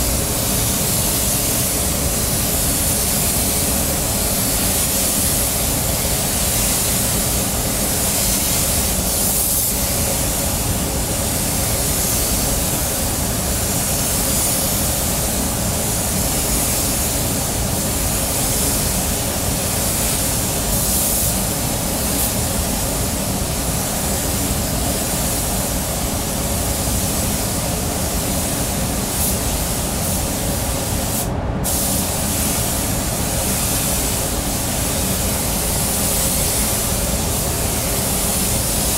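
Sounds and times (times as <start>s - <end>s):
paint spray gun hissing: 0.0s - 38.9s.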